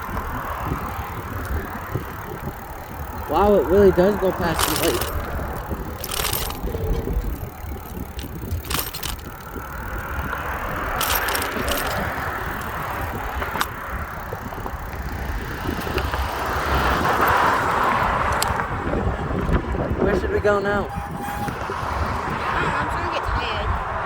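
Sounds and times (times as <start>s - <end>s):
bicycle clicks and rattles: 0.0s - 20.3s
wind rumbling on microphone: 0.0s - 24.0s.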